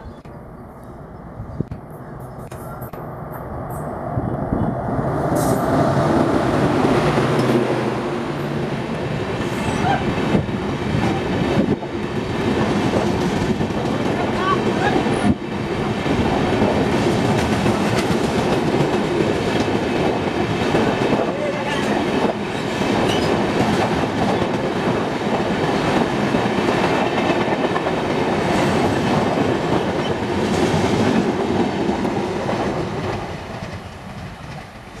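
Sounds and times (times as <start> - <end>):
train wheels on rail: 1.6 - 35.0.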